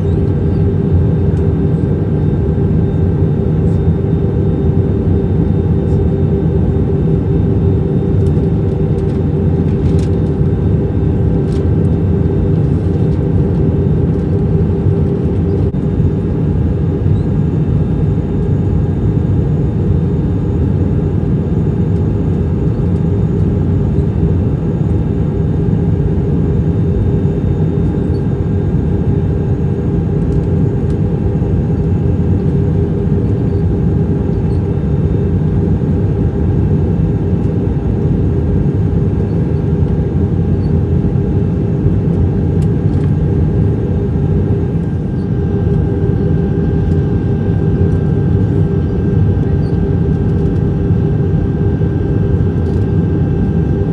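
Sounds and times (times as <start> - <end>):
airplane engine drone in flight: 0.0 - 53.9.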